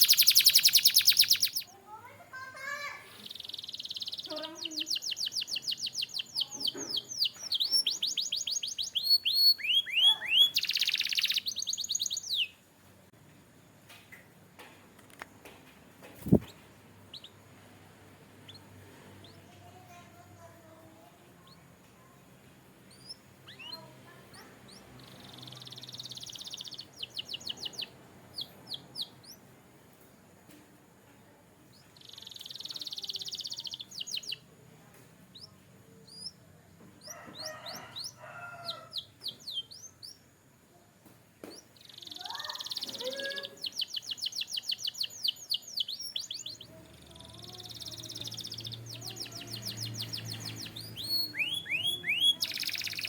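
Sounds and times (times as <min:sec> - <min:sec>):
canary singing: 0:00.0 - 0:12.7, 0:16.2 - 0:17.5, 0:18.4 - 0:21.7, 0:22.8 - 0:29.5, 0:31.7 - 0:34.6, 0:35.3 - 0:40.5, 0:41.5 - 0:53.0.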